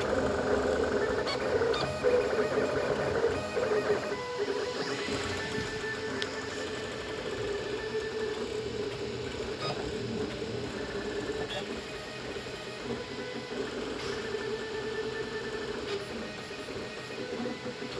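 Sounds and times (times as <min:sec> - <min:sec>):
three d printer stepper motors whining: 0:00.0 - 0:17.9.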